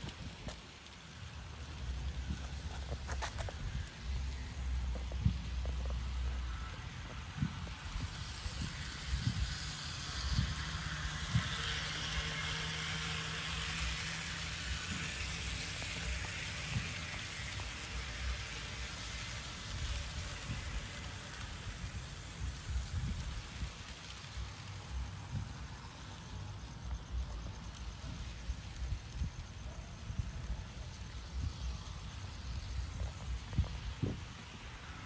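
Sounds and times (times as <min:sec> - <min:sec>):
wheels hissing on rail: 0:00.0 - 0:35.0.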